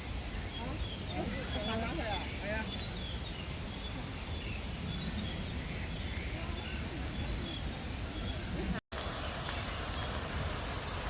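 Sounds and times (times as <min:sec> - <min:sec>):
small birds chirping: 0:00.1 - 0:10.2.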